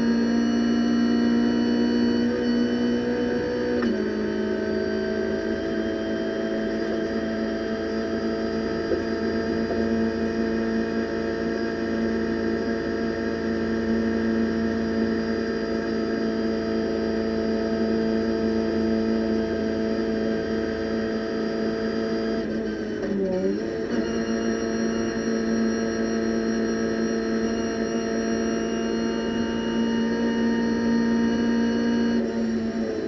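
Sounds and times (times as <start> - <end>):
race car engine at full throttle: 0.0 - 33.0.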